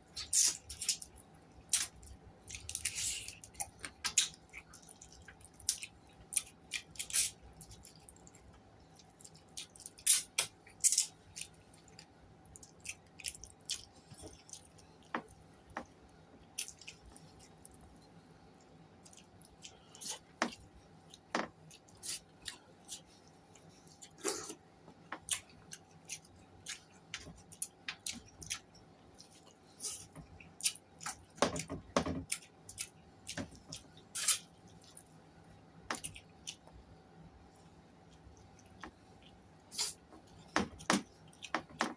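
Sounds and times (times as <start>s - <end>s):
person chewing: 0.1s - 17.9s, 19.0s - 24.6s, 25.2s - 35.1s, 35.9s - 36.8s, 38.1s - 40.0s.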